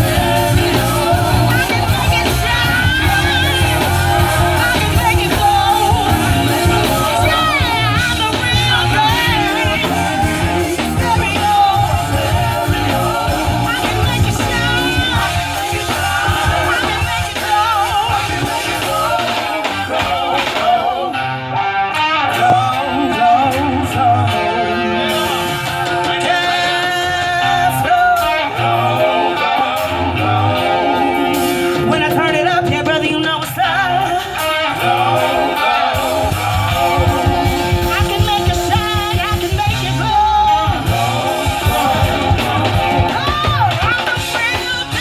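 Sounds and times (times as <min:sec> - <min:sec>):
person singing: 0:00.0 - 0:21.3, 0:21.9 - 0:45.0
live band playing: 0:00.0 - 0:45.0.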